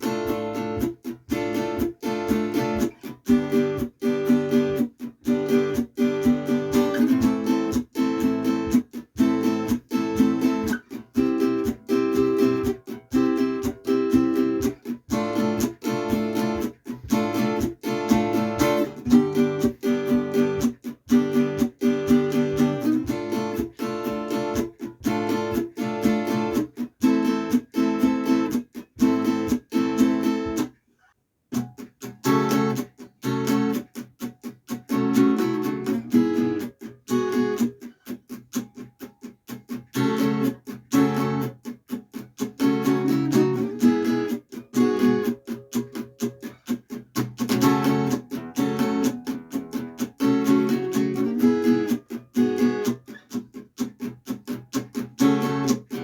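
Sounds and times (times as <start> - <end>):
acoustic guitar strumming chords: 0.0 - 30.7, 31.5 - 56.0.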